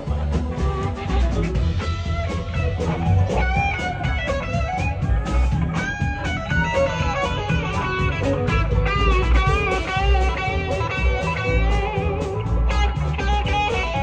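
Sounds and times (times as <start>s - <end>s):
electric guitar bending notes: 0.0s - 14.0s
live blues-rock band playing: 0.0s - 14.0s.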